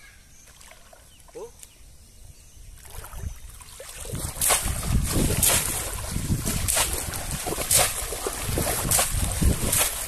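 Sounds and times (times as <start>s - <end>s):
pond water splashing: 0.4s - 1.8s, 2.8s - 10.0s.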